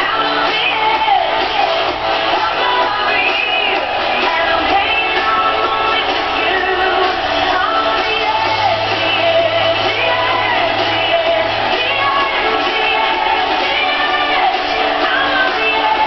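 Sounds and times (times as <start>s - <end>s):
pop song with singer: 0.0s - 16.0s.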